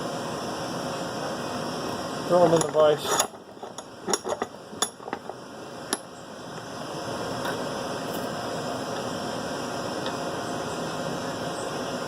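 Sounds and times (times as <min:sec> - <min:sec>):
transmitters hissing and humming: 0:00.0 - 0:12.0.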